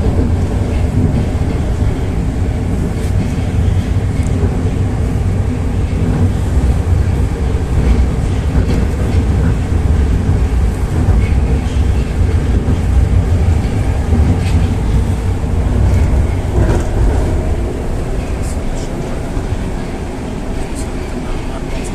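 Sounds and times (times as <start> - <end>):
metro train wheels rumbling on rails: 0.0 - 21.9.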